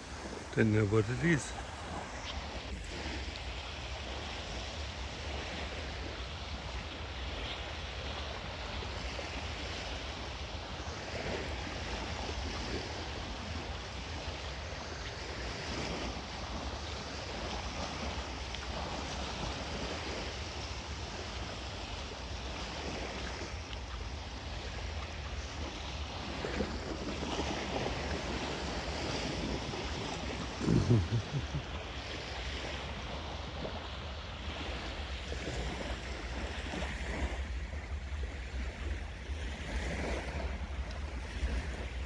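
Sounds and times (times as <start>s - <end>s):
small waves lapping on shore: 0.0s - 42.0s
wind rumble on microphone: 1.2s - 42.0s.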